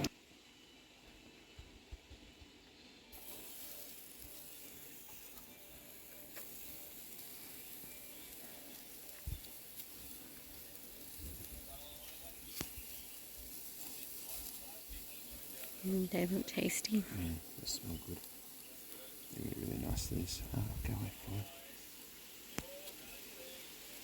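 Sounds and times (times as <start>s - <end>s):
food sizzling in a pan: 3.0s - 24.0s.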